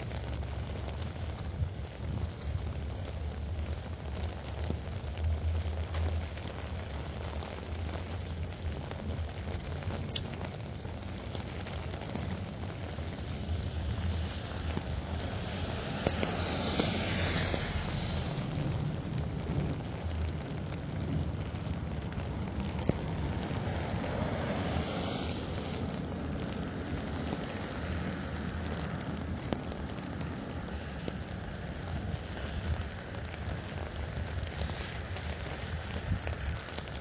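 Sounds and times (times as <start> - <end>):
car tyres hissing on wet road: 0.0 - 37.0
drips ticking on umbrella: 0.0 - 37.0
low traffic rumble: 0.0 - 37.0
rain drumming on an umbrella: 0.0 - 37.0.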